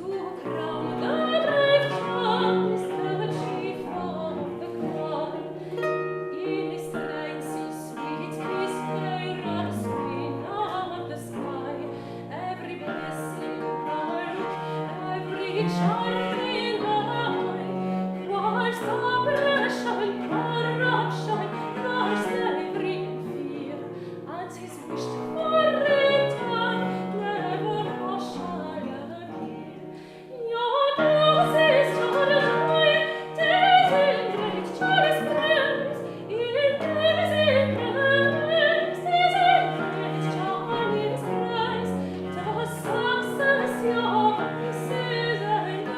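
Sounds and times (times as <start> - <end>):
early music ensemble playing: 0.0 - 45.9
woman singing: 0.0 - 45.9.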